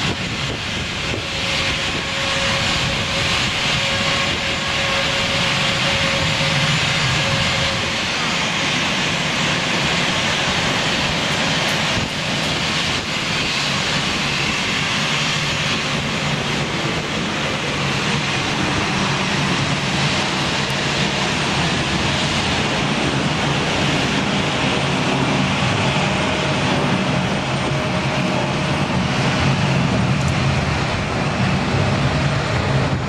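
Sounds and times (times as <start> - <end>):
loud jet engine noise: 0.0 - 33.0.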